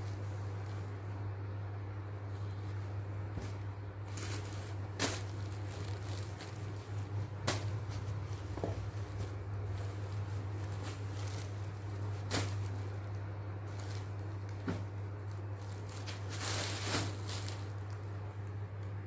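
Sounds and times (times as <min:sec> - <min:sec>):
cloth rustling: 0:00.0 - 0:01.2, 0:02.1 - 0:18.5
steady low hum: 0:00.0 - 0:19.0.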